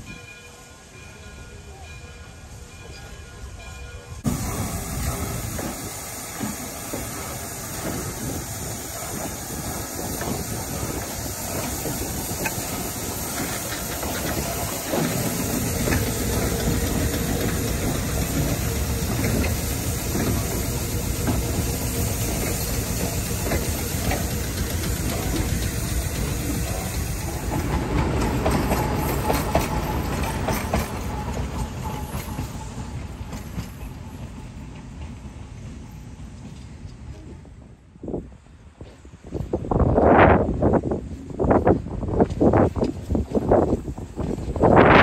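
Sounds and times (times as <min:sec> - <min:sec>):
steel wheels rumbling on rails: 0:00.0 - 0:45.0.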